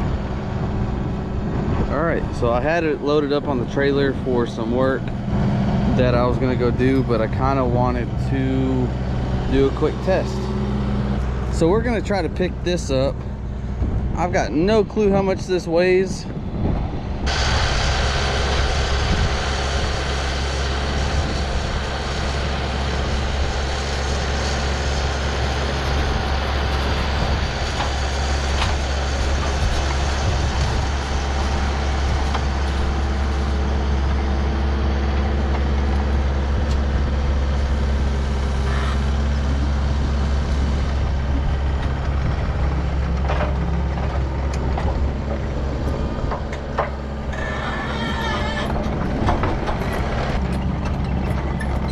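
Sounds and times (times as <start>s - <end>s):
machine engine humming: 0.0s - 51.9s.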